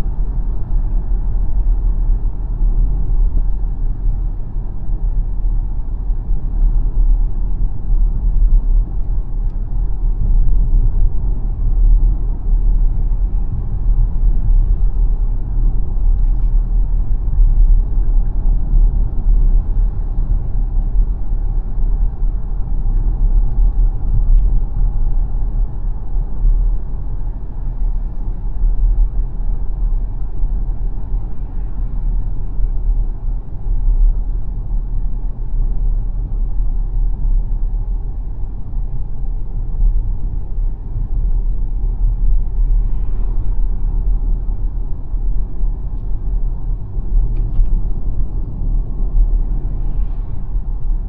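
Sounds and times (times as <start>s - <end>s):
road and tyre rumble: 0.0s - 51.0s.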